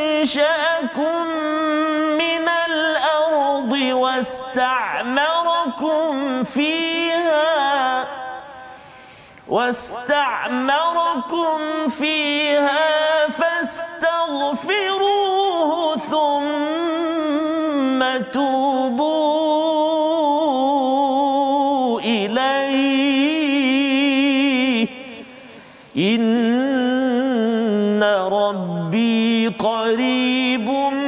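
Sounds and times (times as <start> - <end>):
man reciting melodically: 0.0 - 31.0.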